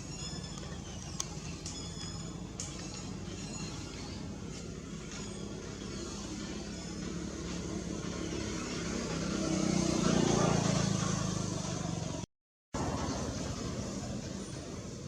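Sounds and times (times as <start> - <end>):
outdoor background noise: 0.0 - 15.0
vehicle engine hum: 0.0 - 15.0.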